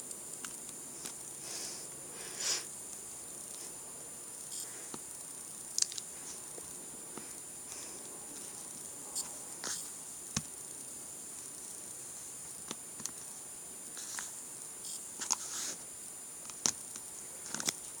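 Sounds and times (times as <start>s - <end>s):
electronic hiss: 0.0s - 18.0s
faint high whine: 0.0s - 18.0s.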